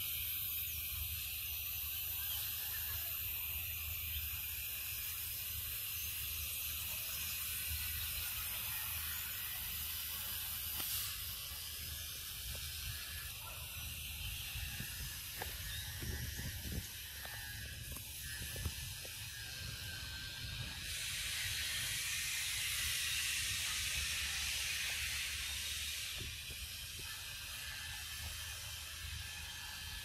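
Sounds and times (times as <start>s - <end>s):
insect chorus drone: 0.0s - 30.0s.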